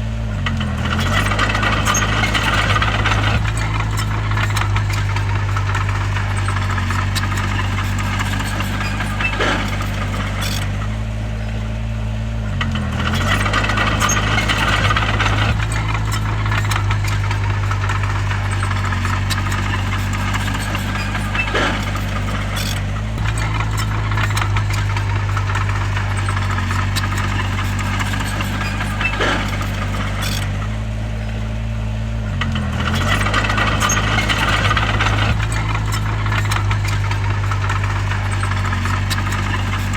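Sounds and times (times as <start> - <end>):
bulldozer diesel engine running: 0.0 - 39.9
machine clanking: 0.4 - 11.8, 12.6 - 39.9.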